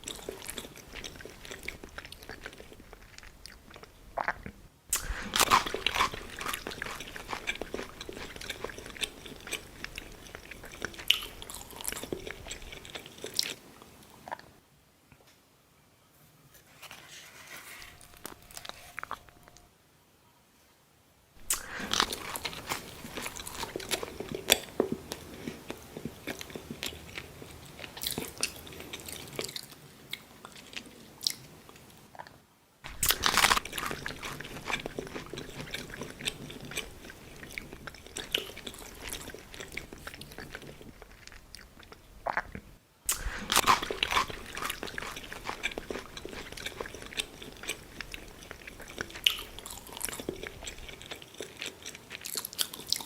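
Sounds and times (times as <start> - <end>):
crunchy pizza bites: 0.0 - 13.6, 21.4 - 30.8, 32.9 - 53.0
chewing: 0.0 - 14.5, 21.4 - 53.0.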